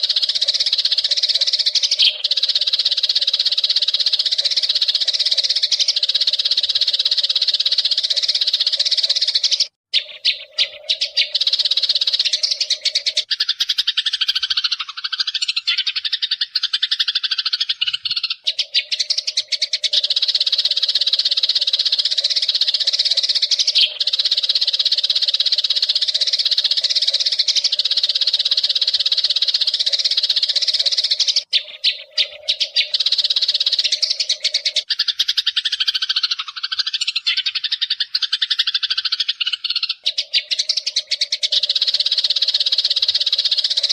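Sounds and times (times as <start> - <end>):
flock of sparrows chirping: 0.0 - 43.9.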